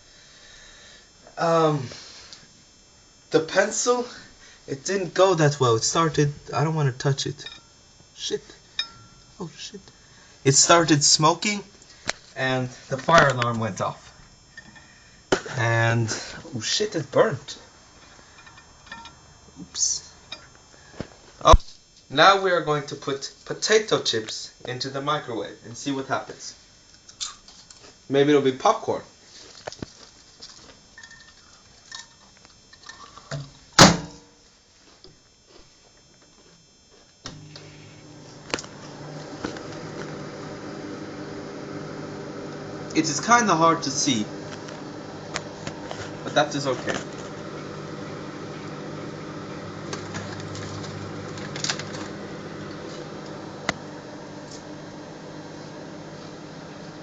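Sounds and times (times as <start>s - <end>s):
microwave oven humming: 0.0s - 24.5s, 30.4s - 57.0s.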